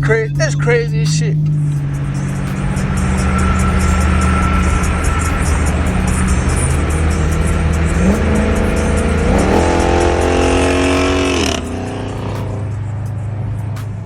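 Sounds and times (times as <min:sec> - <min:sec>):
car engine revving: 0:00.0 - 0:14.0
music with steady beat: 0:00.0 - 0:14.0.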